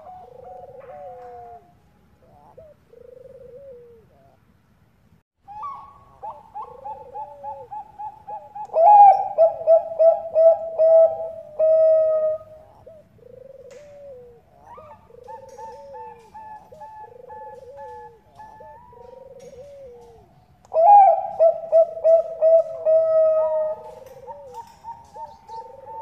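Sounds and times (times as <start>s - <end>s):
doves cooing: 0.0s - 4.5s, 5.5s - 26.0s.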